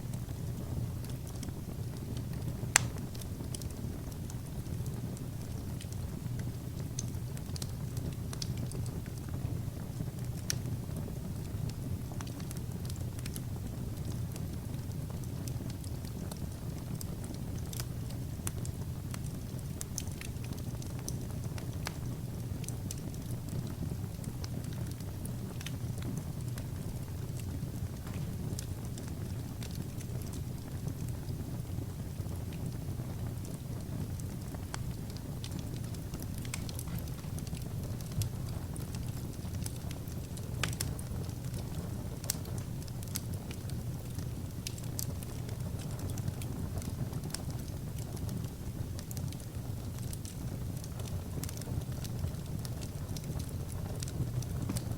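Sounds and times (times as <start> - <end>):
fire low rumble: 0.0 - 54.9
wood fire crackling: 0.0 - 54.9.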